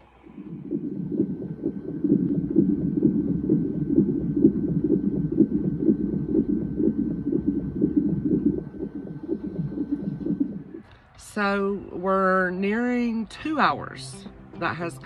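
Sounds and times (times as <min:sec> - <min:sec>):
doppler fetal heartbeat pulsing: 0:00.0 - 0:15.0.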